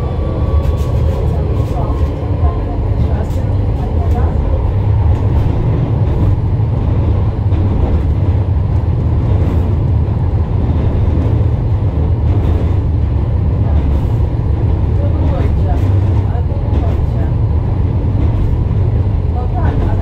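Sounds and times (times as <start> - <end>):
tram rumbling on track: 0.0 - 20.0.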